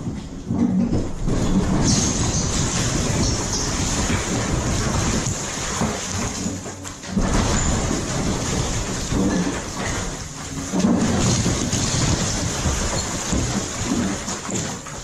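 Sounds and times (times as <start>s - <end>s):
heavy rumbling: 0.0s - 15.0s
breaking timber and falling debris: 0.8s - 15.0s.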